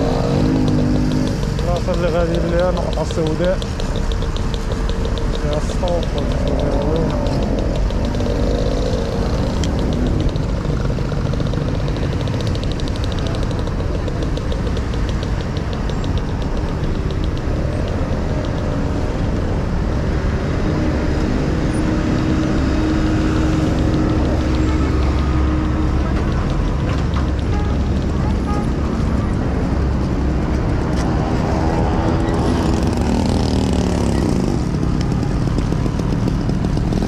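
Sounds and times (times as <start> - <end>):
engine and road noise rumble: 0.0 - 37.0
motor scooters and cars passing: 0.0 - 37.0.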